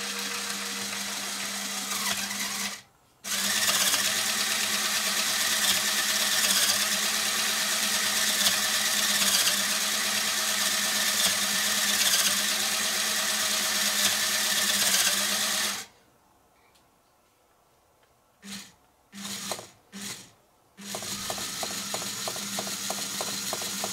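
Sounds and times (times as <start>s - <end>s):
small electric motor whirring: 0.0s - 15.9s, 18.4s - 23.9s.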